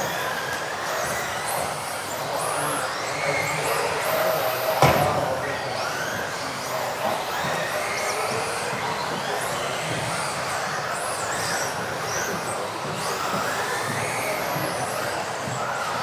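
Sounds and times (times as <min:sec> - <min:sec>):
rc car motors whining: 0:00.0 - 0:16.0.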